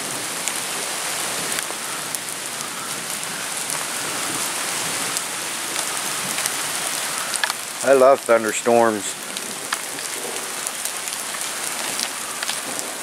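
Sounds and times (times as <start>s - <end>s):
rain falling on trees: 0.0s - 13.0s
raindrops ticking close by: 0.0s - 13.0s.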